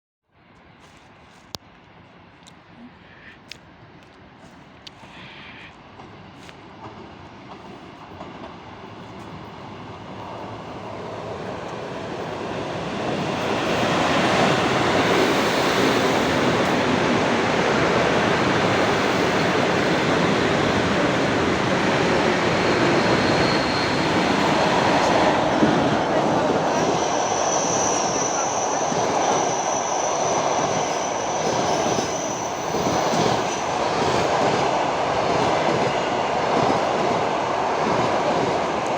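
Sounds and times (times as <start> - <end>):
electric train passing: 3.7 - 38.9.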